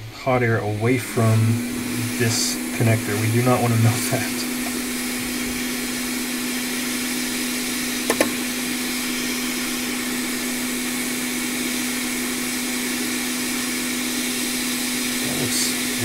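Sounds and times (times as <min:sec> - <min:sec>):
hot air station blowing: 0:00.0 - 0:16.0.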